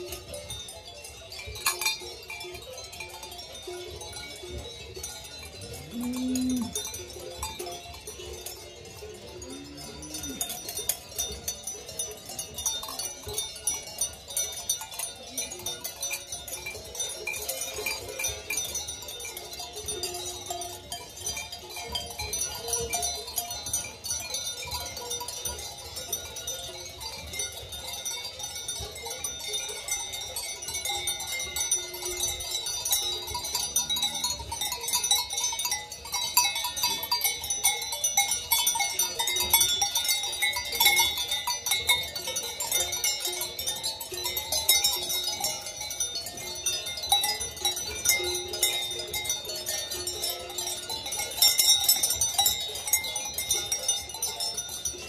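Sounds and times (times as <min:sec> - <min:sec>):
cowbells clanking: 0:00.0 - 0:55.0.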